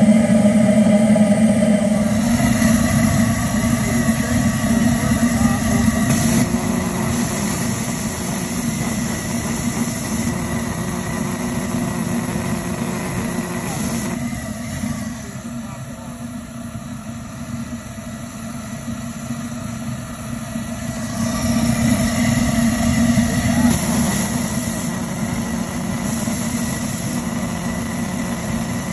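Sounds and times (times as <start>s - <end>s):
low hum: 0.0s - 28.9s
oil burner flame rushing: 0.0s - 28.9s.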